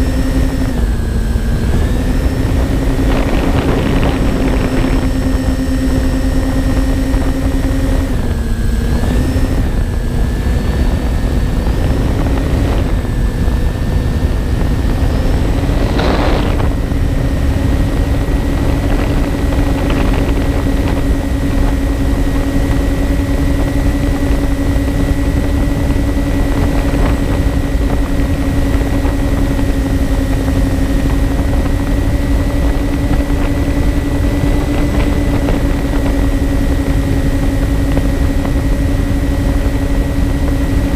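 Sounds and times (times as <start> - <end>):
electric motors and propellers droning: 0.0 - 40.9
wind rush: 0.0 - 40.9.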